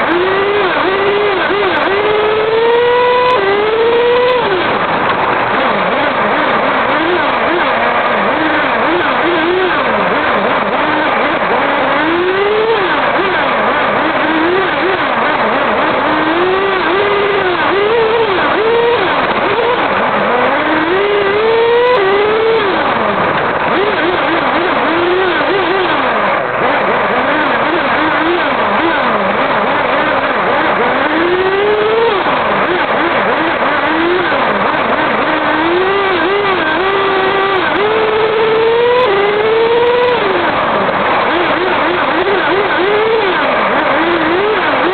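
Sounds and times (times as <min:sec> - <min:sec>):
loud steady rushing noise: 0:00.0 - 0:44.9
model car motor revving: 0:00.0 - 0:44.9
road and wind noise: 0:00.0 - 0:44.9.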